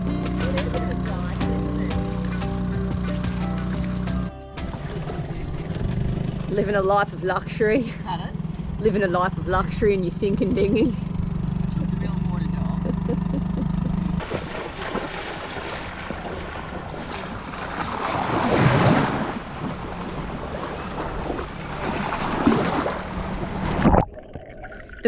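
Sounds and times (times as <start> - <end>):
water splashing: 0.0 - 7.9, 8.9 - 25.0.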